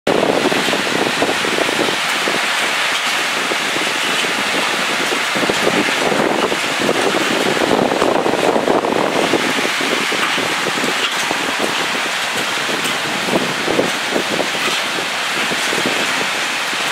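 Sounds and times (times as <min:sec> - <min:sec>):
heavy rain pouring: 0:00.1 - 0:16.9.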